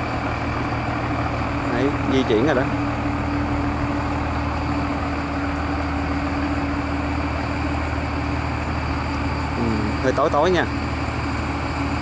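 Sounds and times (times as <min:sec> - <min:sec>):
diesel engine droning under load: 0:00.0 - 0:12.0.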